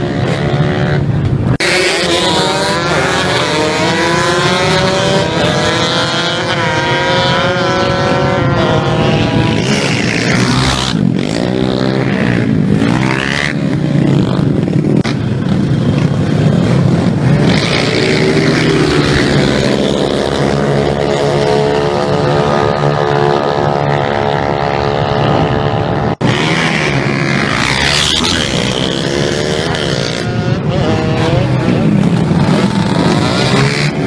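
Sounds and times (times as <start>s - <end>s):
motorcycle engines revving past: 0.0s - 34.0s.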